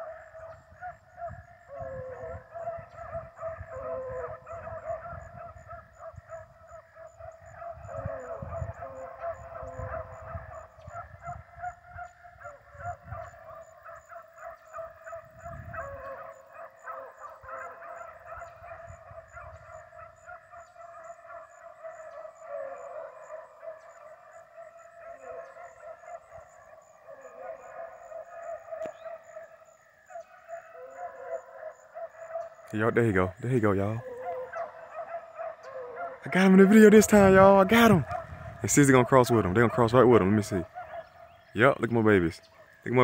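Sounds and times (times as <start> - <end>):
pack of hounds baying: 0.0 - 43.0.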